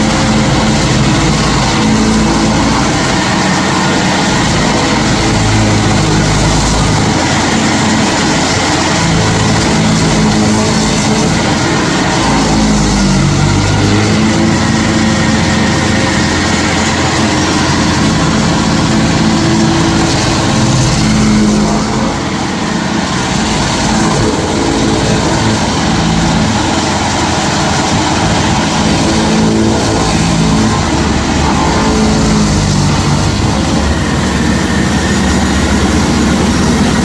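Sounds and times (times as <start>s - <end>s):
cutter wheel grinding: 0.0s - 37.0s
stump grinder engine: 0.0s - 37.0s.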